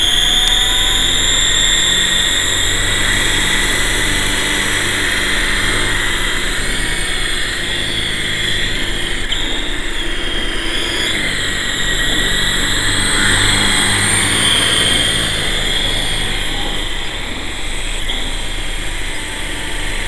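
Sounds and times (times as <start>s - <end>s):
remote-control helicopter whine: 0.0s - 20.0s
spinning rotors whirring: 0.0s - 20.0s.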